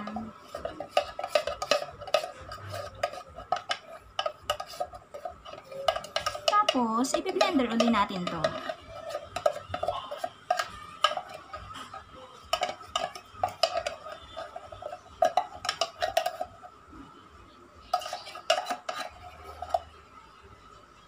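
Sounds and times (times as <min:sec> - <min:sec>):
spoon clinking on metal bowl: 0:00.0 - 0:16.6, 0:17.9 - 0:19.9
metal spoon scraping tin can: 0:00.0 - 0:16.8, 0:17.9 - 0:19.9.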